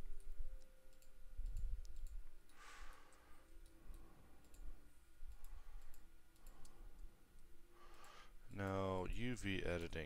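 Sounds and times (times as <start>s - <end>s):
computer mouse clicks: 0.1s - 8.2s.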